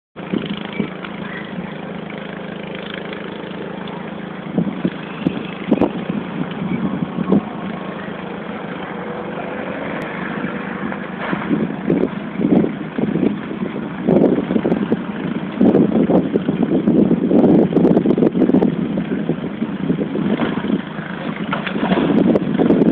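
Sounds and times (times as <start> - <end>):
diesel engine running: 0.2 - 22.9.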